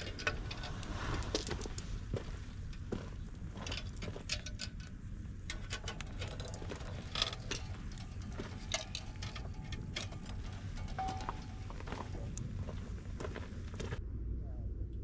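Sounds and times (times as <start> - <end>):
light clicks and knocks: 0.0 - 14.0
steady low rumble: 0.0 - 15.0.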